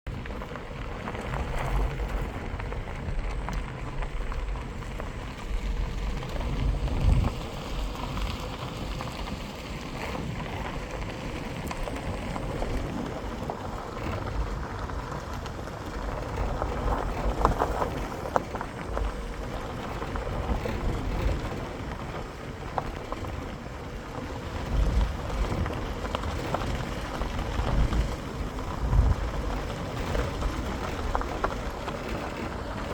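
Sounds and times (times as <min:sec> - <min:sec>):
background rumble: 0:00.1 - 0:32.9
wind buffeting microphone: 0:00.1 - 0:32.9.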